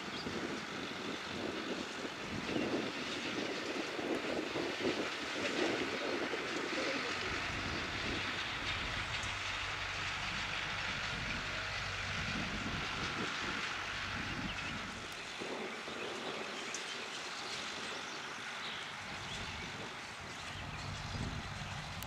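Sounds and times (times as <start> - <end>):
distant tractor engine hum: 0.0 - 22.0.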